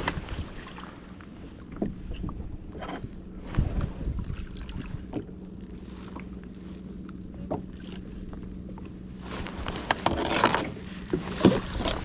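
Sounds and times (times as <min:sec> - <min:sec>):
wind and water hum: 0:00.0 - 0:12.0.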